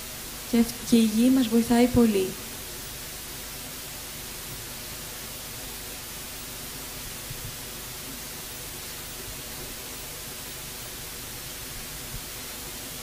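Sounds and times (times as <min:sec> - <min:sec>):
tape hiss and static: 0:00.0 - 0:13.0.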